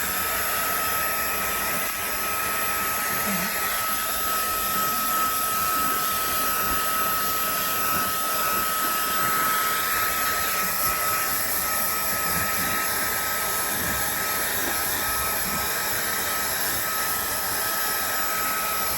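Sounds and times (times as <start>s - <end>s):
hair dryer blowing: 0.0s - 18.9s.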